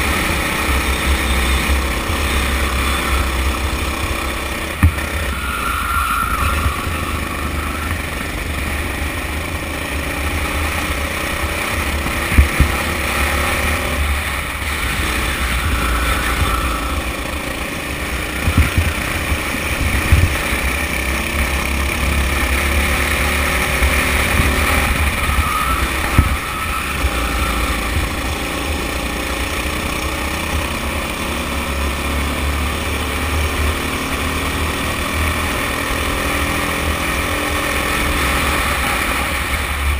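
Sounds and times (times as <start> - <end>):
kart engine running hard: 0.0 - 39.9
wind and road noise: 0.0 - 39.9.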